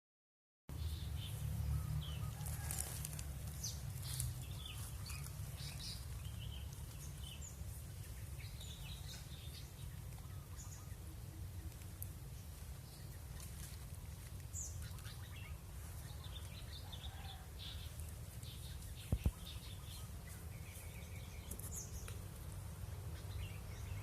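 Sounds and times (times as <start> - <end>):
small birds chirping: 0.7 - 24.0.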